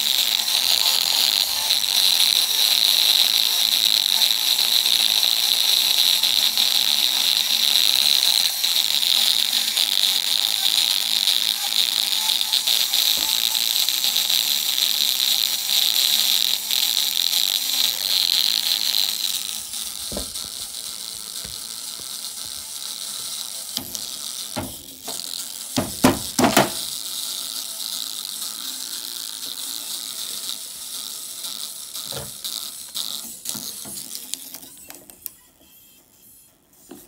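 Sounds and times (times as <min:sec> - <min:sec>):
distorted buzzing speaker: 0:00.0 - 0:35.1.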